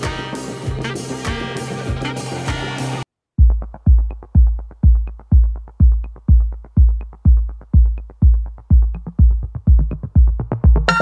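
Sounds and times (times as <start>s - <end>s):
electronic dance music: 0.0s - 3.0s, 3.6s - 11.0s.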